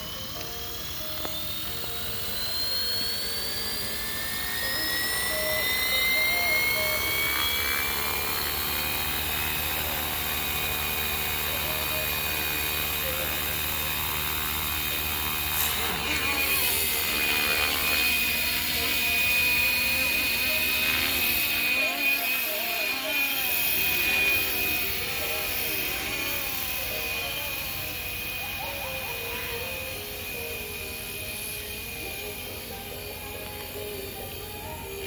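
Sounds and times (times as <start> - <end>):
rc helicopter motor and rotor whine: 0.0 - 35.0.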